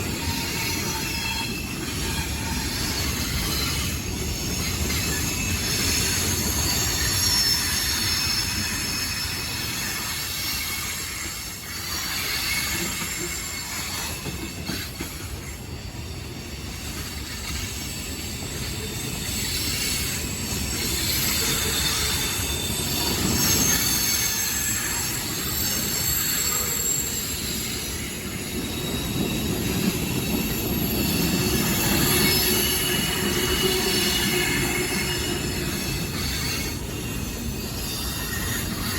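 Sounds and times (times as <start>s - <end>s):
railcars rolling rumble: 0.0s - 38.9s
train wheels squealing: 0.0s - 38.9s.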